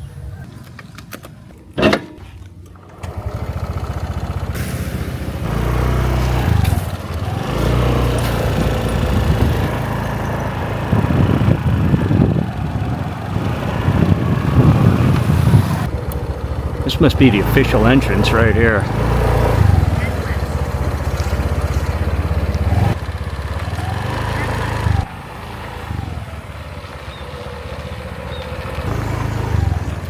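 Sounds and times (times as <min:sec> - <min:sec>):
small motorbike engine: 0:02.7 - 0:30.0.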